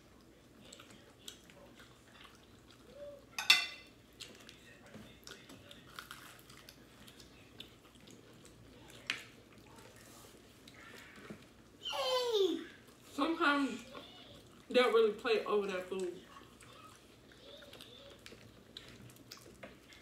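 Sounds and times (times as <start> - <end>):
chewing: 0.0 - 11.8, 12.7 - 13.1, 13.8 - 14.7, 15.9 - 20.0.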